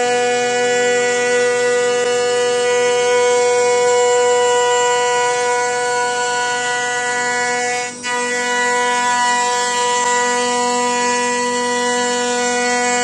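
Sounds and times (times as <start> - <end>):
milling machine whining: 0.0 - 13.0.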